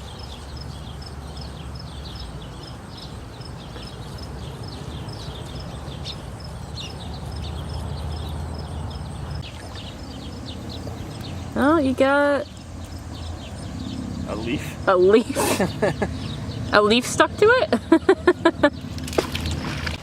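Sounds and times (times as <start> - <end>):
small birds chirping: 0.0 - 19.9
low outdoor rumble: 0.0 - 20.0.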